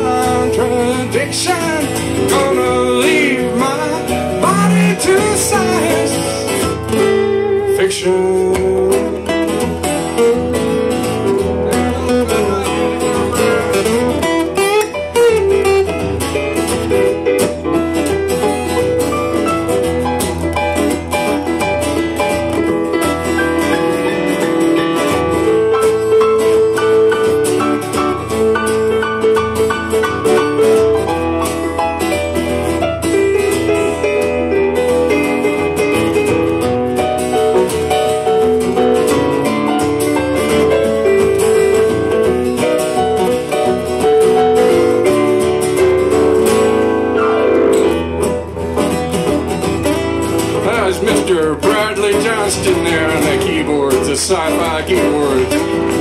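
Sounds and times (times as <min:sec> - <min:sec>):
acoustic guitars strumming: 0:00.0 - 0:56.0
keyboard piano: 0:00.0 - 0:56.0.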